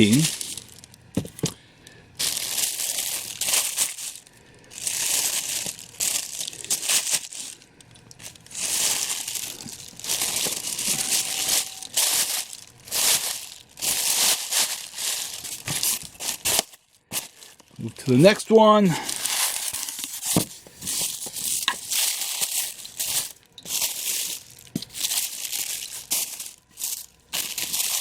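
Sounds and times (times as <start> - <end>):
packaging crinkling and rustling: 0.0 - 1.6, 2.2 - 28.0.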